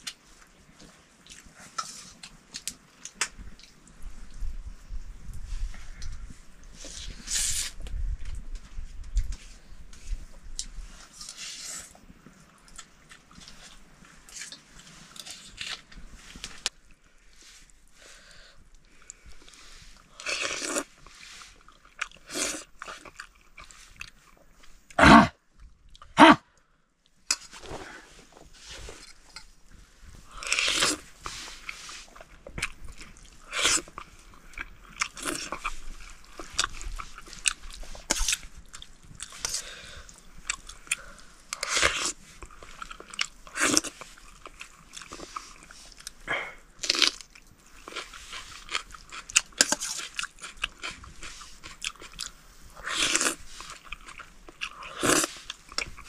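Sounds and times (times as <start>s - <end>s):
people chewing and eating: 0.0s - 26.4s, 27.0s - 56.0s.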